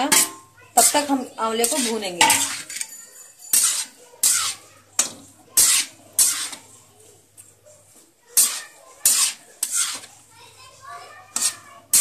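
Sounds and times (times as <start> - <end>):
food frying in oil: 0.0 - 7.6, 8.2 - 12.0
spatula scraping pan: 0.0 - 12.0.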